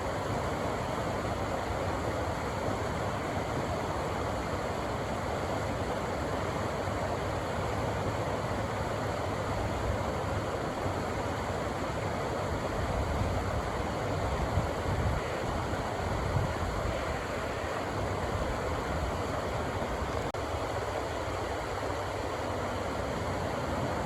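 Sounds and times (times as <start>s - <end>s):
rushing river water roar: 0.0s - 24.0s.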